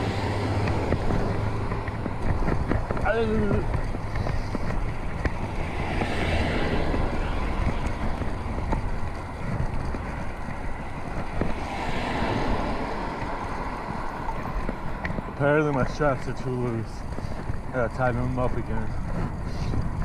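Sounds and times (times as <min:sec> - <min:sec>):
tyres rumbling on road: 0:00.0 - 0:20.0
wind rushing over microphone: 0:00.0 - 0:20.0.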